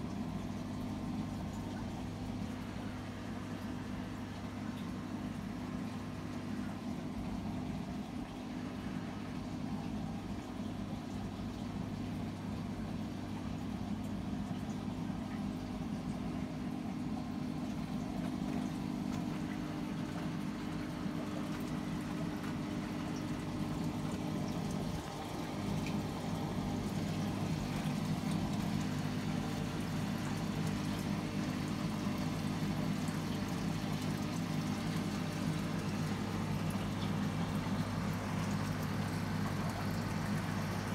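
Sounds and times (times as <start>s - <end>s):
aquarium filter pump humming: 0.0s - 40.9s
water moving through tank: 0.0s - 40.9s.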